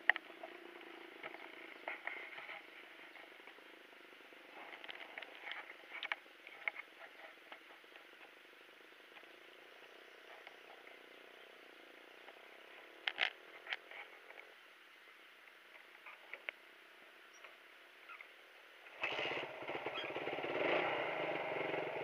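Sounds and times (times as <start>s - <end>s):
motorcycle riding on dirt road: 0.0s - 14.6s, 18.0s - 22.0s
steady background noise: 0.0s - 22.0s.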